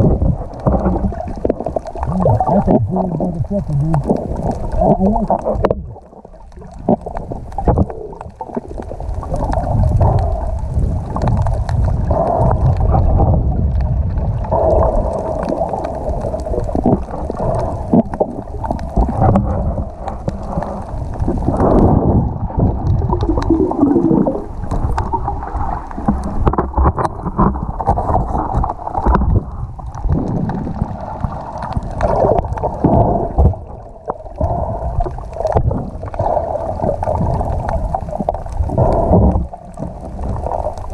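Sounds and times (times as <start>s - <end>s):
muffled underwater water gurgling: 0.0s - 40.9s.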